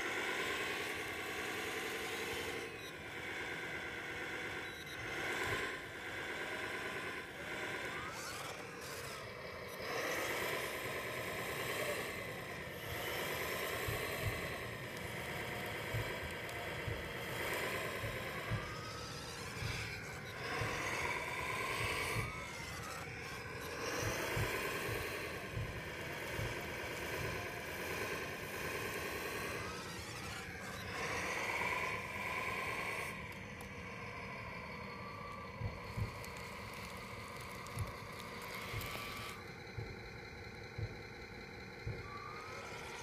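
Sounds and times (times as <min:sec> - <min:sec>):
electric motors whining: 0:00.0 - 0:43.0.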